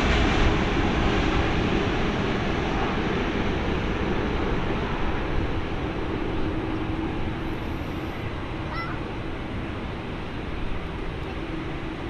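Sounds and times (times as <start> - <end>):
jet engine rush: 0.0 - 12.0.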